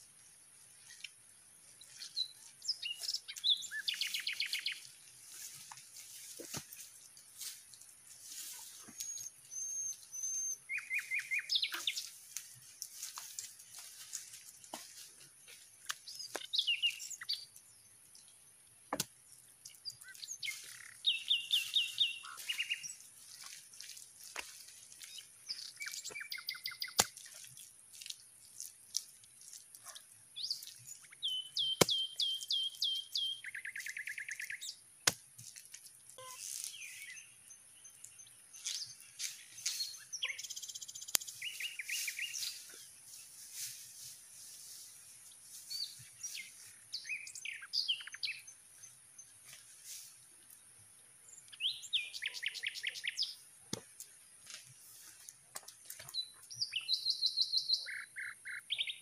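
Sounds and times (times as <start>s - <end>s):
forest birds calling: 0.0s - 59.0s.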